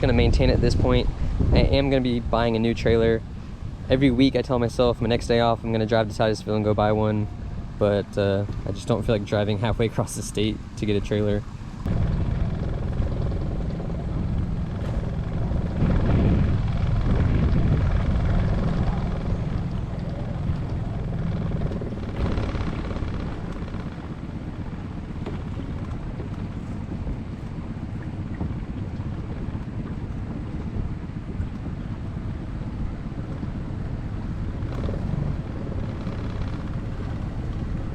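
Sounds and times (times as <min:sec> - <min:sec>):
outboard motor running: 0:00.0 - 0:37.9
wind buffeting microphone: 0:00.0 - 0:37.9.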